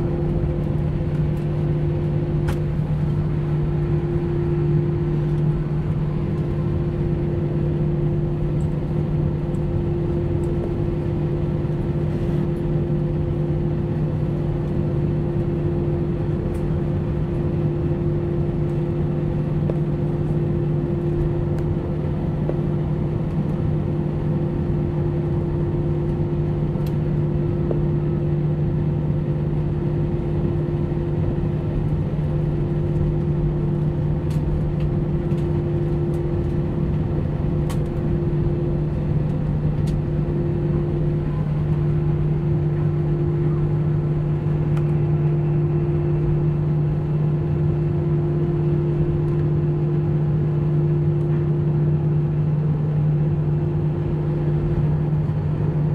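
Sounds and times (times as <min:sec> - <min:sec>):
jet engines idling hum: 0:00.0 - 0:55.9.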